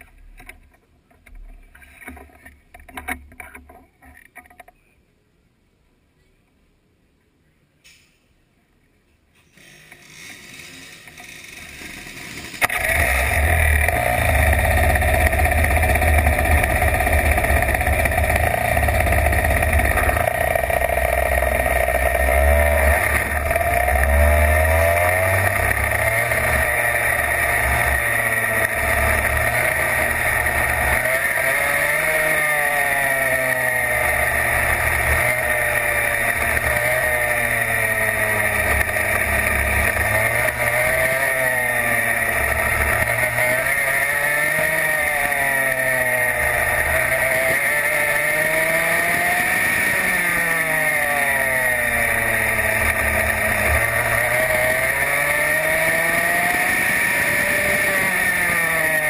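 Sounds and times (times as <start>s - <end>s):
racing kart engine: 9.4s - 59.0s.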